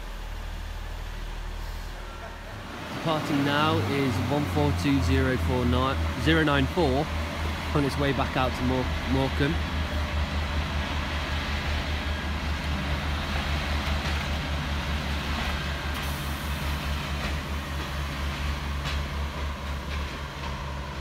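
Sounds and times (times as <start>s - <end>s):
diesel engine throbbing drone: 0.0s - 18.1s.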